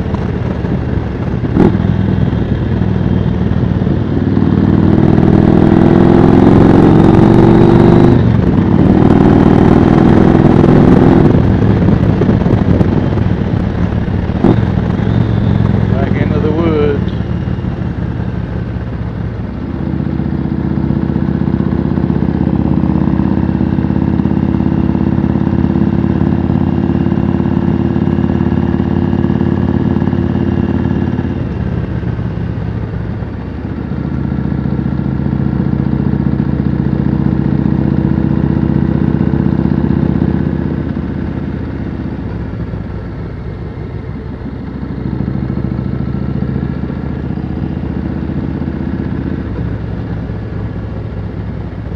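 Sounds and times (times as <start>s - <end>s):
motorcycle engine under throttle: 0.0s - 51.9s.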